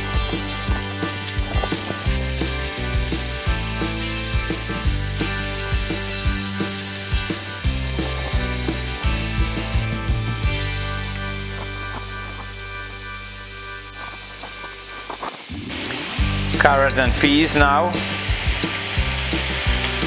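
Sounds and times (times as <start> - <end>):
background music with bass line: 0.0 - 20.0
peppers sizzling in hot oil: 0.0 - 20.0.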